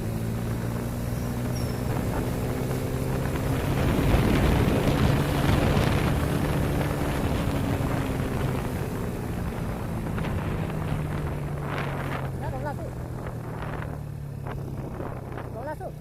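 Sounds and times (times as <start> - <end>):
motorcycle engine running: 0.0 - 16.0
wind rushing over microphone: 0.0 - 16.0.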